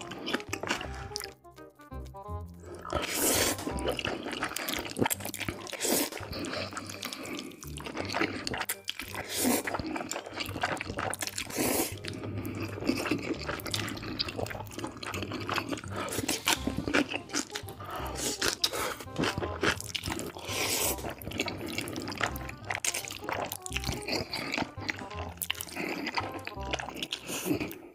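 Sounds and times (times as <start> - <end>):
noodles slurping: 0.0 - 1.3, 2.6 - 27.9
chewing and mouth smacking: 0.0 - 27.9.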